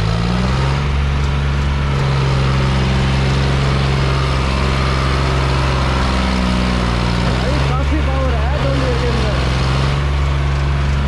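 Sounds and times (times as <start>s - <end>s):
tractor diesel engine straining: 0.0s - 11.0s.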